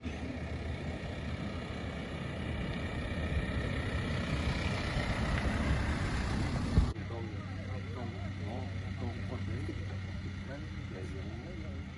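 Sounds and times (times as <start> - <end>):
engine running: 0.0 - 11.9.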